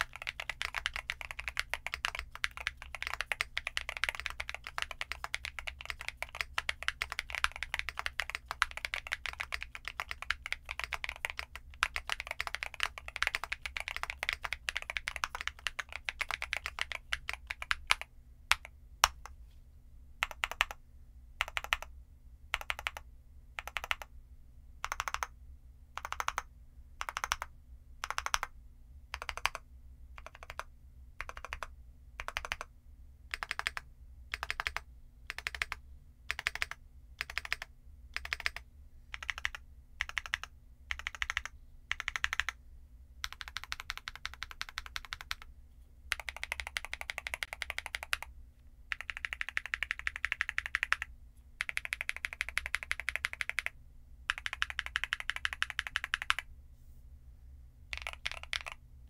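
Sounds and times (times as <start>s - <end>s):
mechanical keyboard typing: 0.0s - 19.3s, 20.2s - 20.8s, 21.4s - 21.9s, 22.5s - 23.0s, 23.6s - 24.1s, 24.8s - 25.3s, 26.0s - 28.5s, 29.1s - 29.6s, 30.2s - 32.7s, 33.3s - 42.6s, 43.2s - 45.5s, 46.1s - 48.3s, 48.9s - 53.7s, 54.3s - 56.4s, 57.9s - 58.8s.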